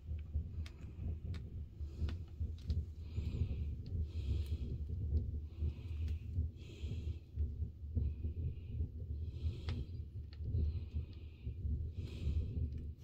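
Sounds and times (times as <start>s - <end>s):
fire rumbling: 0.0s - 13.0s
wood fire crackling: 0.0s - 13.0s.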